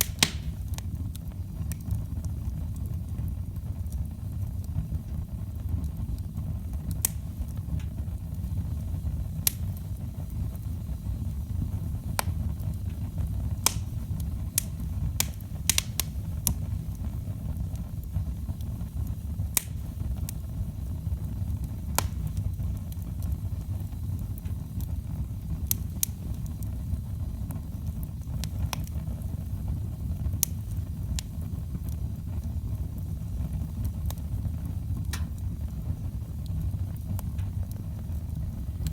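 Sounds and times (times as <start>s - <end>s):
firewood crackling and popping: 0.0s - 38.9s
low rumble of flames: 0.0s - 38.9s.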